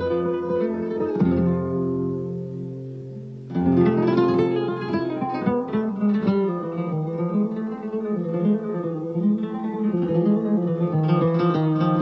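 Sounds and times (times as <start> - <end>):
flamenco guitar melody: 0.0 - 12.0.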